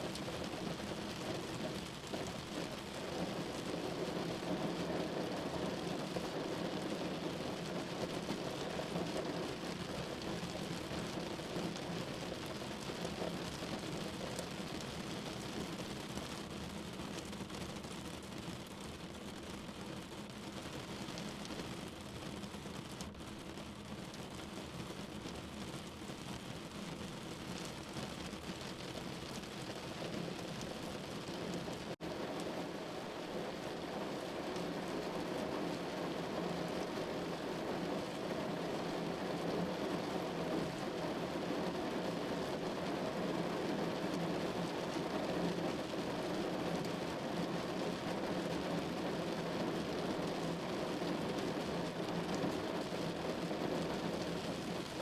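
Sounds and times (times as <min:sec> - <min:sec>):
rain pattering on window glass: 0:00.0 - 0:55.0.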